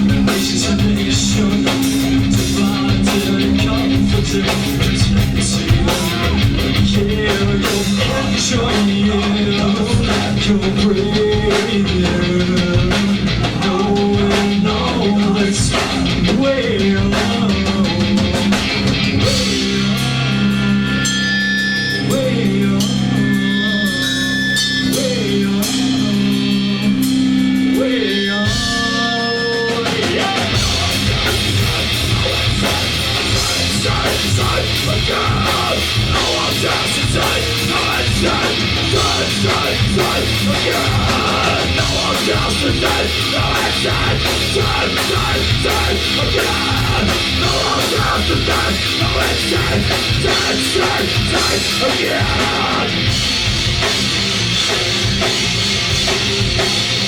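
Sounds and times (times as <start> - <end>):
person singing: 0.0 - 18.5, 21.9 - 53.2
drum kit: 0.0 - 57.0
electric guitar: 0.0 - 57.0.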